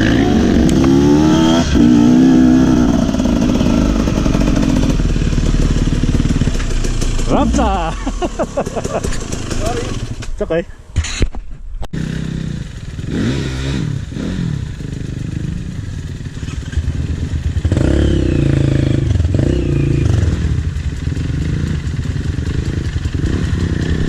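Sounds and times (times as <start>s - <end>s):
motorcycle engine revving: 0.0s - 10.3s, 12.0s - 24.0s.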